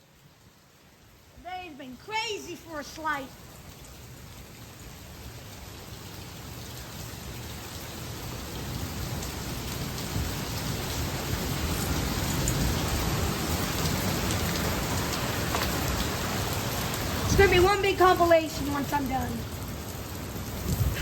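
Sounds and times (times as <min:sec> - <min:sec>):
heavy rain pelting down: 0:00.0 - 0:21.0.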